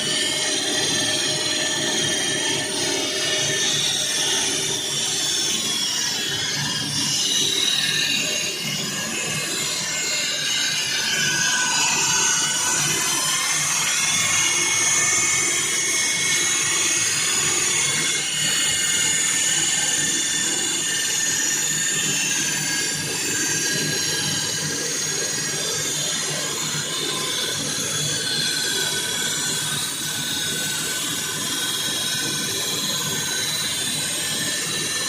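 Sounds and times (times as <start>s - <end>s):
high wavering whine: 0.0s - 35.0s.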